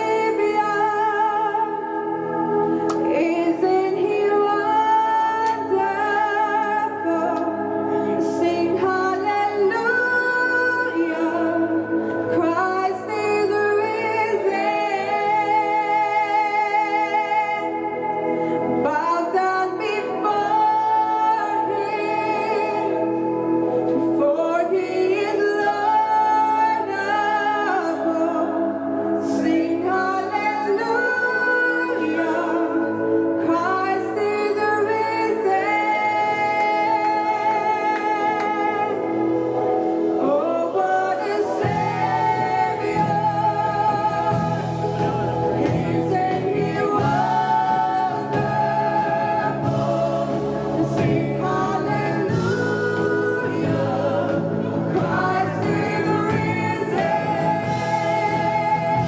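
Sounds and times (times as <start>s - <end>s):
backing voices singing: 0.0s - 59.0s
woman singing lead: 0.0s - 59.0s
worship band playing: 0.0s - 59.0s.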